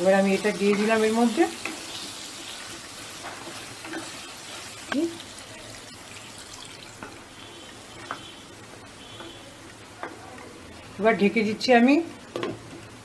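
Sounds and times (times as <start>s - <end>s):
sauce sizzling in pan: 0.0s - 11.0s.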